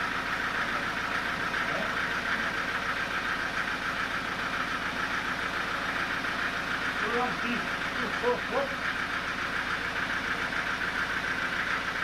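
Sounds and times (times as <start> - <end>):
sawmill machinery drone: 0.0 - 12.0.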